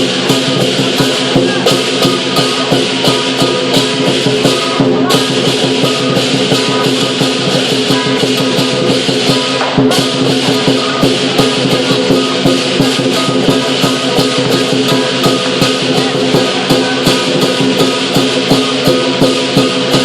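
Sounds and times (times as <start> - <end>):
cymbals clashing: 0.0 - 20.0
drum beating: 0.0 - 20.0
ringing metal tones: 0.0 - 20.0.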